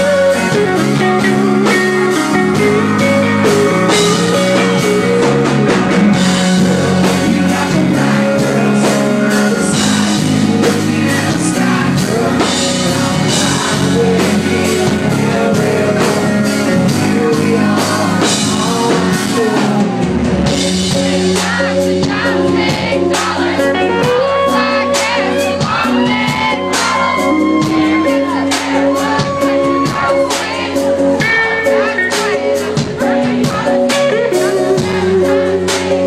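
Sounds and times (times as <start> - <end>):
drum kit: 0.0 - 36.0
electric guitar: 0.0 - 36.0
male lead vocal singing: 0.0 - 36.0.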